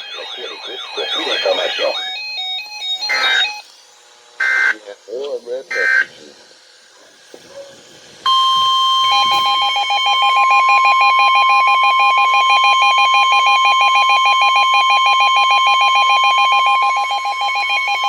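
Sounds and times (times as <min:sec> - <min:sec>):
rapidly pulsing alarm tone: 0:00.0 - 0:03.7, 0:04.4 - 0:04.9, 0:05.5 - 0:06.2, 0:08.3 - 0:18.0.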